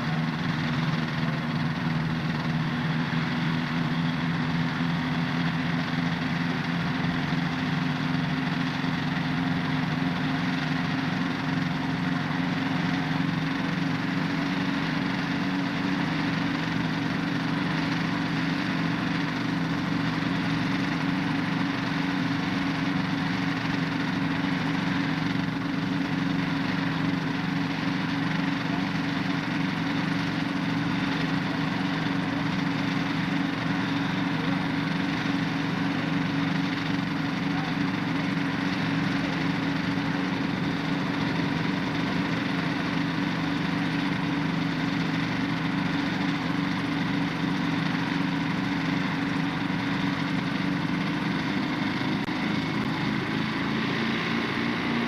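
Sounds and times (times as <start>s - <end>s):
helicopter engines running: 0.0s - 55.0s.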